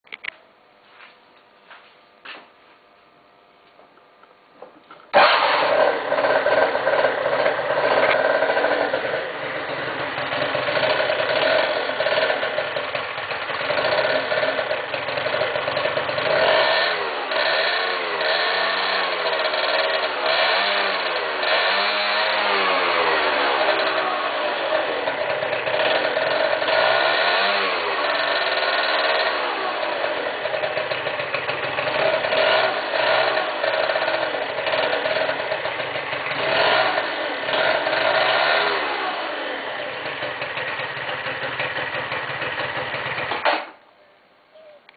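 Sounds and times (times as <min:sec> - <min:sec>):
motorbike engine revving: 0:05.1 - 0:43.7.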